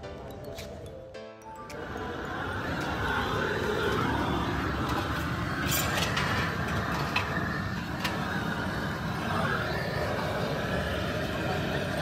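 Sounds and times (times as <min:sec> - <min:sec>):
workshop rumble: 0:01.6 - 0:12.0.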